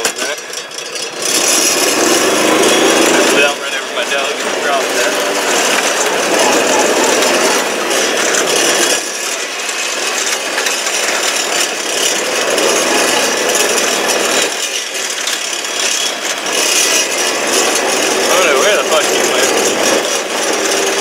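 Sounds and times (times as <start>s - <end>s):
tractor engine rattling: 0.0s - 21.0s.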